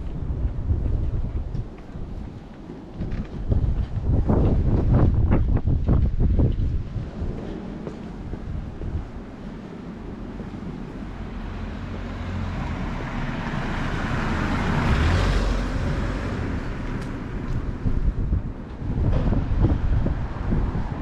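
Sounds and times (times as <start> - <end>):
vehicle passing on street: 0.0 - 21.0
wind buffeting microphone: 0.0 - 21.0.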